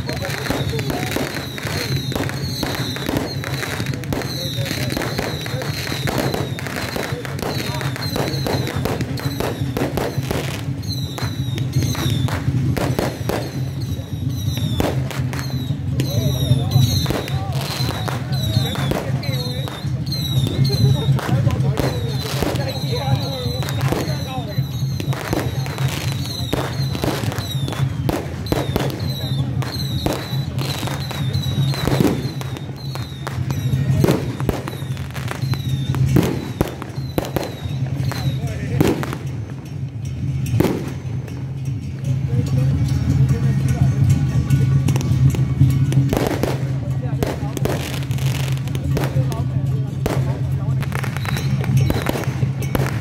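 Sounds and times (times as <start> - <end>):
firecrackers popping: 0.0 - 53.0
steady low drone: 0.0 - 53.0.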